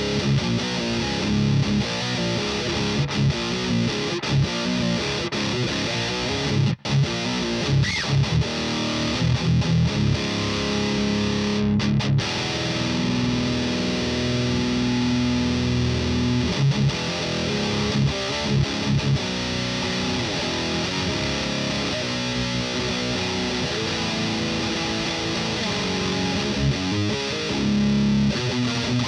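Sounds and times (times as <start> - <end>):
distorted electric guitar chugs and chords: 0.0 - 29.0.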